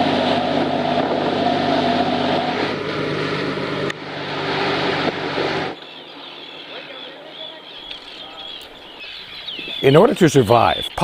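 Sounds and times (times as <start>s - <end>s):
motorboat engine running: 0.0s - 9.0s
water noise: 0.0s - 11.0s.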